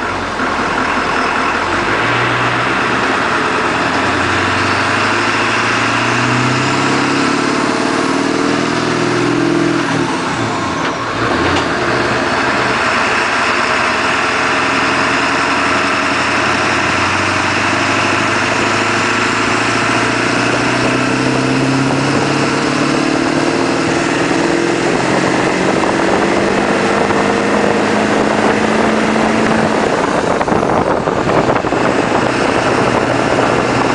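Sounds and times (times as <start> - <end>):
diesel truck accelerating: 0.0 - 33.9.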